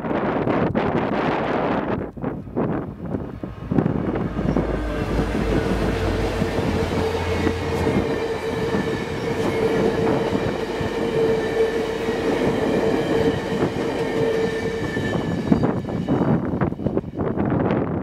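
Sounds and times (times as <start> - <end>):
diesel locomotive rumble: 0.8 - 17.9
train cars rolling past: 1.1 - 17.8
steady whining tone: 1.8 - 17.5.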